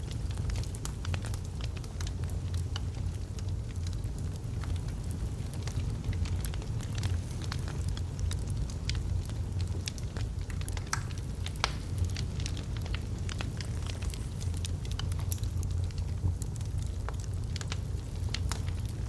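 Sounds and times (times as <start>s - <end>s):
fire crackling and popping: 0.0s - 19.0s
low rumble of fire: 0.0s - 19.0s.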